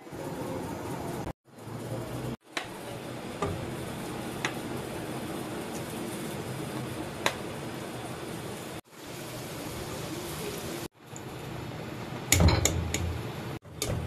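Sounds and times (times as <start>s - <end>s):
chicken sizzling in hot oil: 1.5s - 14.0s.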